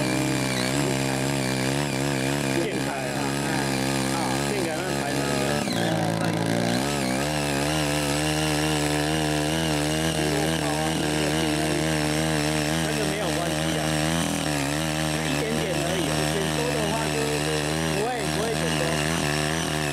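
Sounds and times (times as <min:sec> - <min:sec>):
cultivator engine running: 0:00.0 - 0:19.9
tines churning soil: 0:00.0 - 0:19.9.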